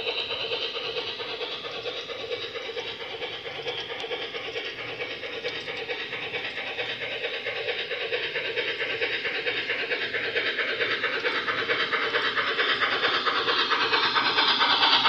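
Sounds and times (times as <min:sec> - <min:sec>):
model steam locomotive running: 0:00.0 - 0:15.0.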